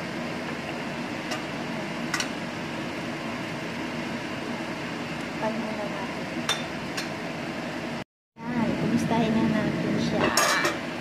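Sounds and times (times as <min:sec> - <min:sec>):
fan whirring: 0:00.0 - 0:11.0.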